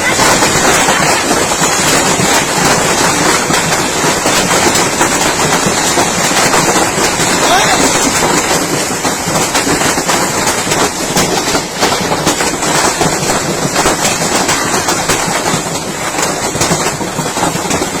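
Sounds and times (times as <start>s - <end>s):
hail and rain pelting down: 0.0s - 18.0s.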